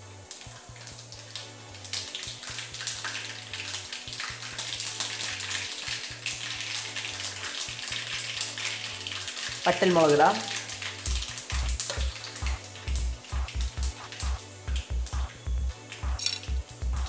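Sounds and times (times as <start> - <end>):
seeds spluttering in hot oil: 0.0 - 17.0.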